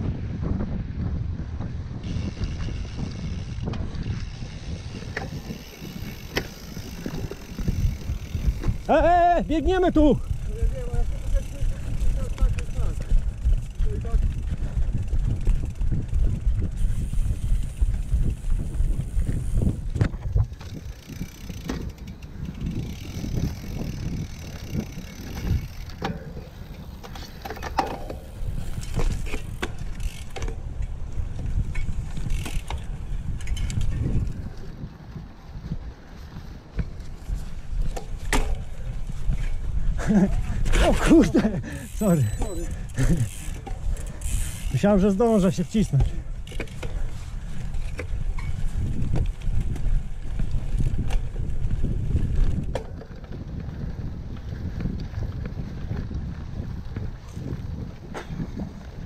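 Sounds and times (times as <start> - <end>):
bike tyres rumbling on sand: 0.0 - 59.0
wind buffeting microphone: 0.0 - 59.0.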